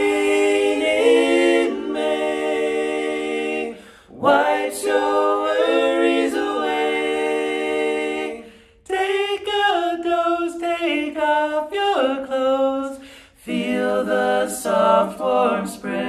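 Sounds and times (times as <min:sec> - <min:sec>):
men singing in close harmony: 0:00.0 - 0:16.0.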